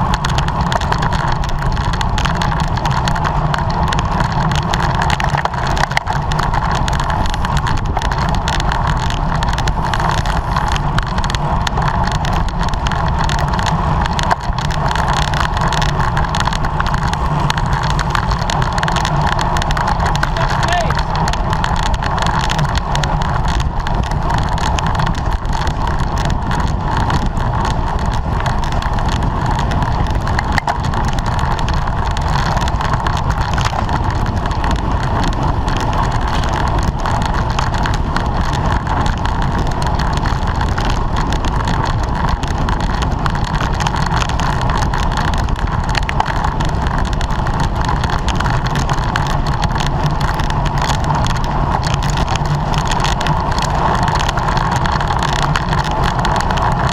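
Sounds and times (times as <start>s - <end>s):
wind and road noise: 0.0s - 56.9s.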